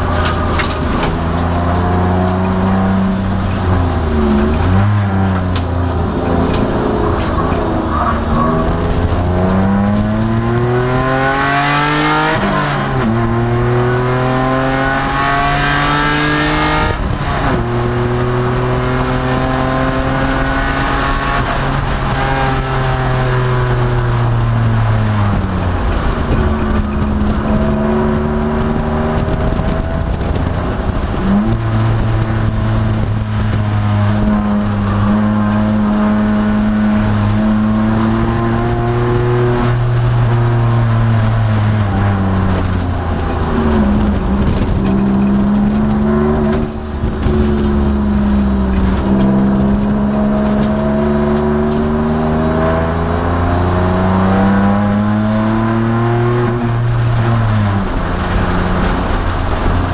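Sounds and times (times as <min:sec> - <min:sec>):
car engine accelerating hard: 0:00.0 - 0:59.9.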